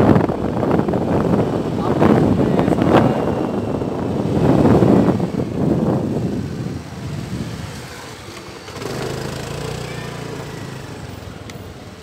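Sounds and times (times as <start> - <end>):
wind buffeting microphone: 0.0 - 12.0
scooter engine running: 0.1 - 12.0.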